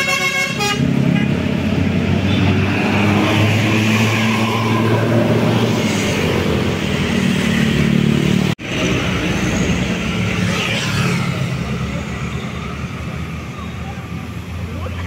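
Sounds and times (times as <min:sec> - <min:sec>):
bus engines running: 0:00.0 - 0:15.0.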